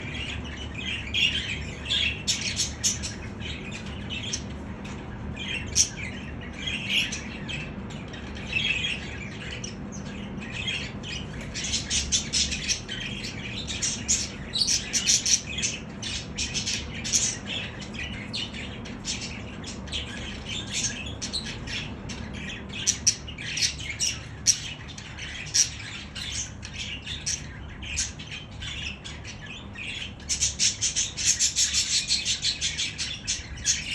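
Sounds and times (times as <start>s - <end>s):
budgerigars chattering: 0.0s - 33.9s
sharp loud bird calls: 0.0s - 33.9s.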